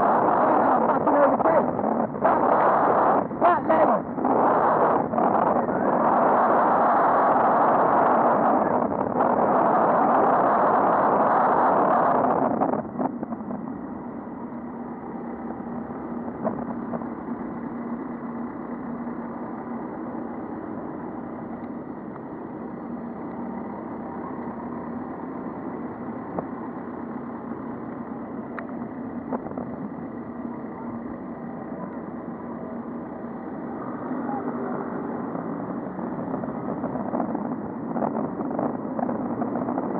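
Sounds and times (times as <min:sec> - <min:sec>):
engine hum: 0:00.0 - 0:39.9
road traffic: 0:00.0 - 0:39.9.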